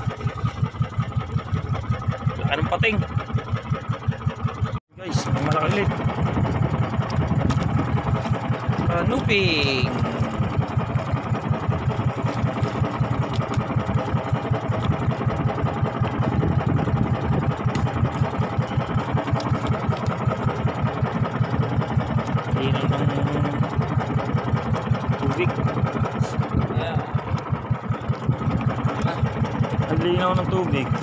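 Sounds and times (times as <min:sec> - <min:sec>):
boat engine chugging: 0:00.0 - 0:31.0.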